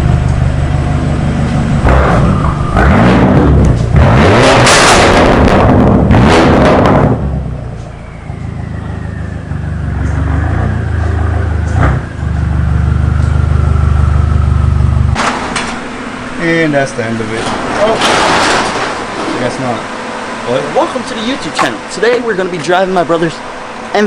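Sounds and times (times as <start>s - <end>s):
exhaust crack: 0.0s - 23.9s
car exhaust drone: 0.0s - 24.0s.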